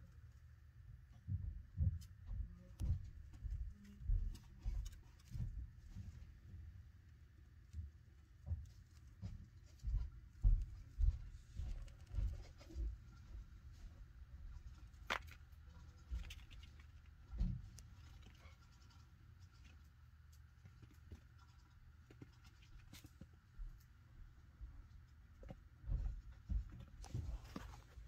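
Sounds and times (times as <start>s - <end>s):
faint scratching and light clicks: 1.9s - 28.0s.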